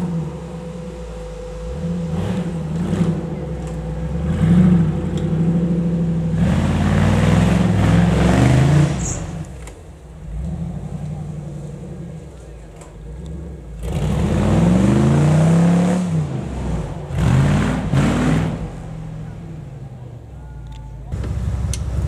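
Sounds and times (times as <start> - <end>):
engine revving: 0.0 - 20.4, 21.1 - 22.0.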